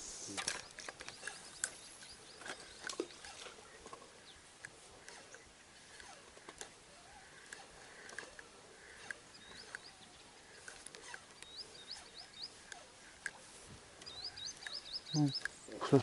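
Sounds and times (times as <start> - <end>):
faint bird chirps: 0.1 - 6.2, 6.9 - 16.0
small clicks and ticks: 0.3 - 16.0.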